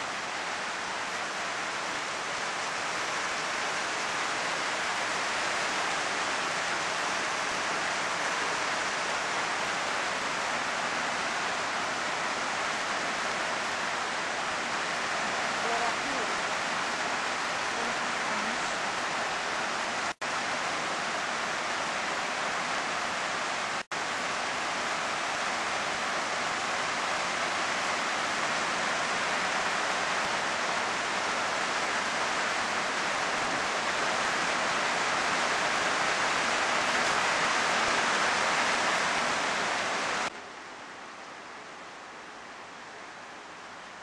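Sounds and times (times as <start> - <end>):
heavy rain on roofs and streets: 0.0 - 44.0.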